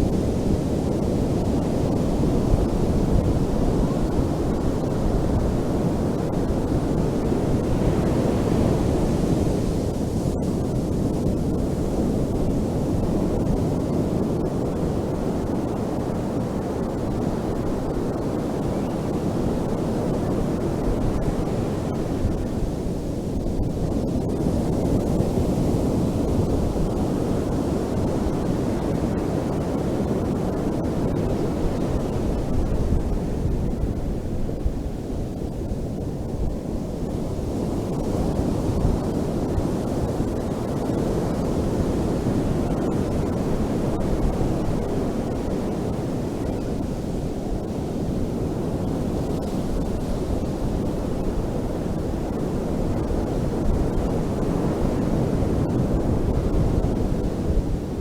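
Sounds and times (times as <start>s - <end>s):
ocean waves washing on beach: 0.0s - 58.0s.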